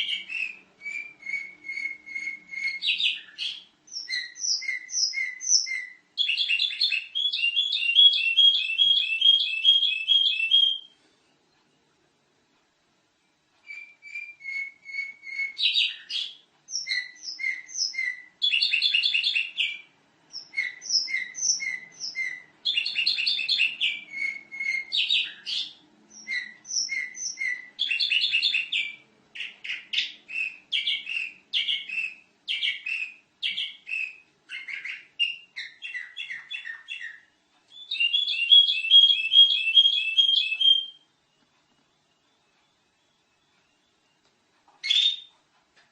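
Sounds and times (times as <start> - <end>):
canary singing with trills: 0.0 - 11.0, 13.6 - 45.6.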